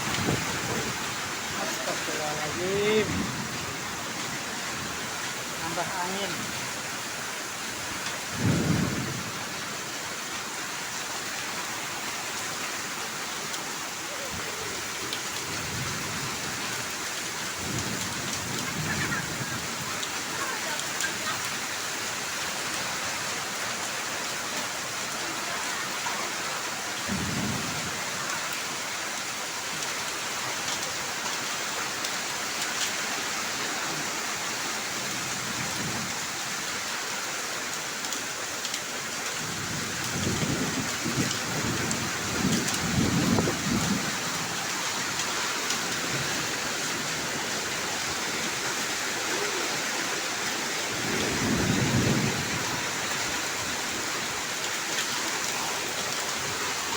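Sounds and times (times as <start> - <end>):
heavy rain and hail: 0.0 - 56.9.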